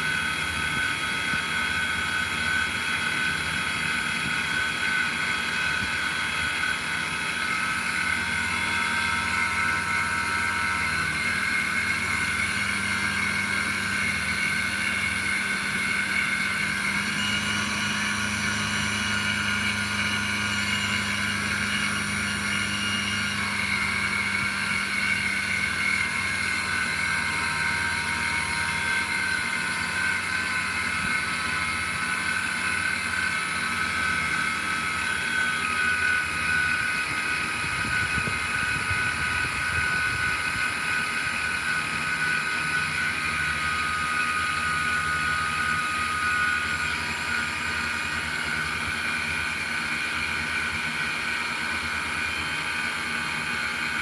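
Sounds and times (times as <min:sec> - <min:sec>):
electric motor whine: 0:00.0 - 0:54.0.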